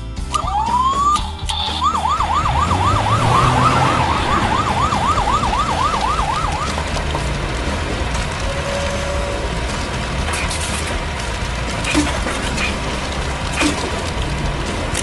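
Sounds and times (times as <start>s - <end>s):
emergency vehicle siren wailing: 0.3s - 15.0s.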